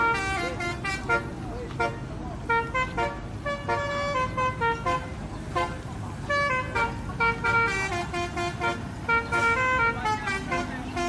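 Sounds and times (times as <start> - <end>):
musical air horns playing: 0.0 - 11.0
truck engine rumble: 0.0 - 11.0.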